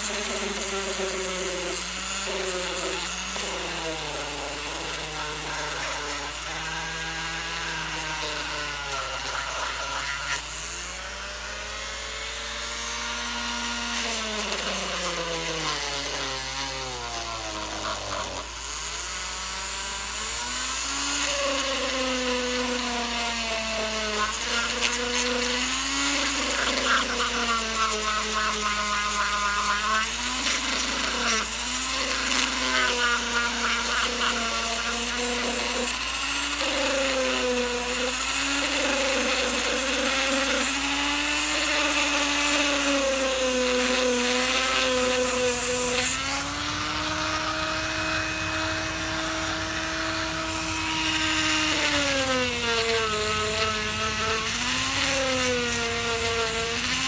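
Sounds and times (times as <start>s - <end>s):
rotary tool motor whine: 0.0s - 57.0s.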